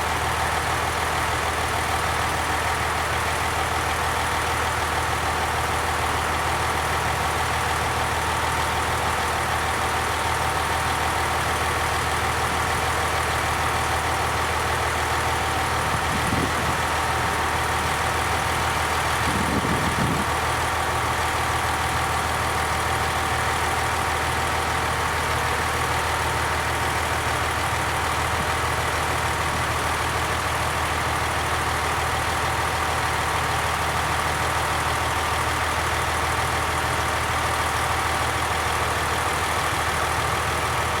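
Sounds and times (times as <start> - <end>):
diesel railcar engine droning: 0.0 - 41.0.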